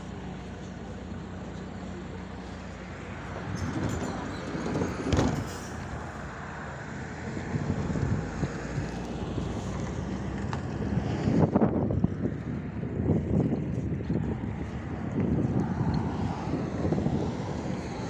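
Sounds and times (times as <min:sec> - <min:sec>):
bus engine hum and road noise: 0:00.0 - 0:18.0.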